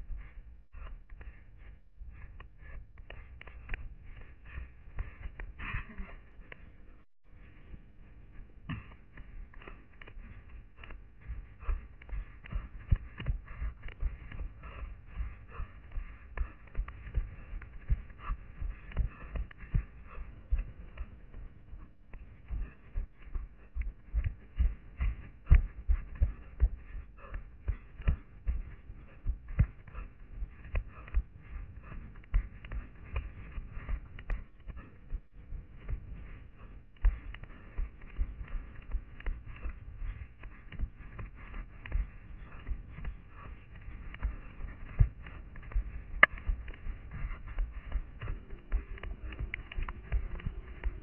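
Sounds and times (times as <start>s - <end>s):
running footsteps on forest floor: 2.1s - 6.6s, 8.3s - 51.0s.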